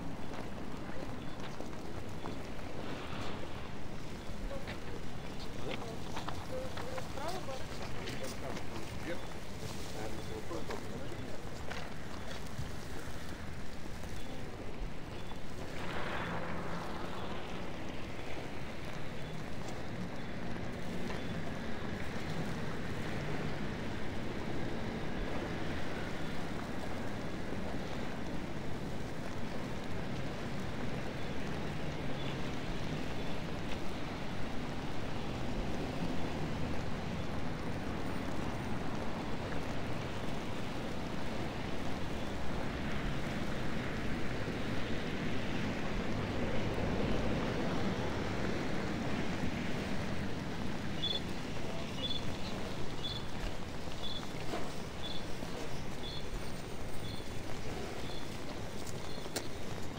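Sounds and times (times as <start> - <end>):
traffic on snowy roads: 0.0 - 59.9.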